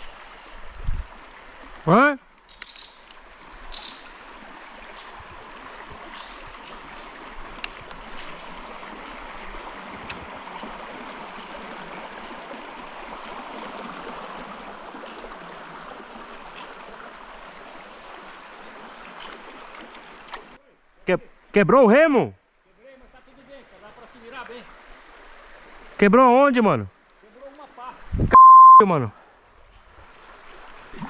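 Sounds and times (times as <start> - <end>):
creek water flowing: 0.0 - 28.2, 28.8 - 31.0.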